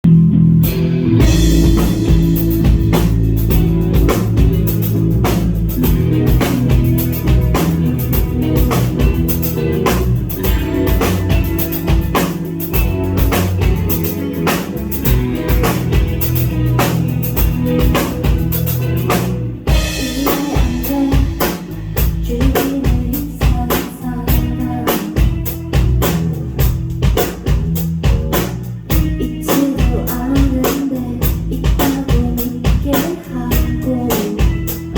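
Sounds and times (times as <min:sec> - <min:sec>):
electric bass: 0:00.0 - 0:34.9
electric guitar: 0:00.0 - 0:34.9
drum kit: 0:00.1 - 0:34.9.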